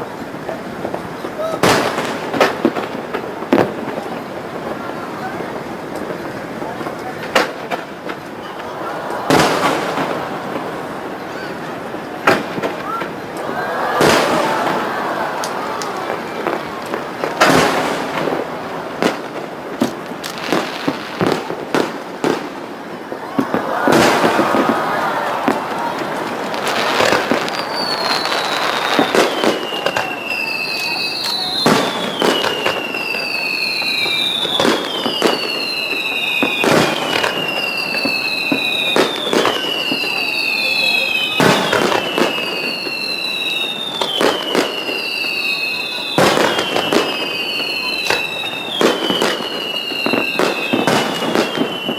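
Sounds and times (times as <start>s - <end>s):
fireworks crackling: 0.0s - 51.9s
firework bang: 0.8s - 4.2s, 6.0s - 40.2s, 41.3s - 43.1s, 46.2s - 51.9s.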